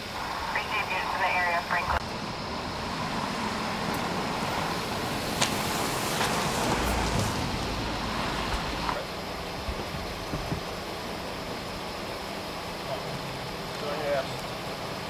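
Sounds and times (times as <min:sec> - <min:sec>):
car engines running: 0:00.0 - 0:15.0
road noise: 0:00.0 - 0:15.0.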